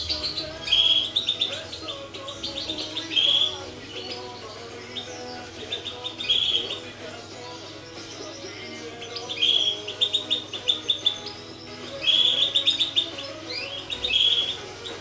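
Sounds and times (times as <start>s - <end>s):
background music with held tones: 0.0s - 15.0s
finches chirping: 0.0s - 15.0s.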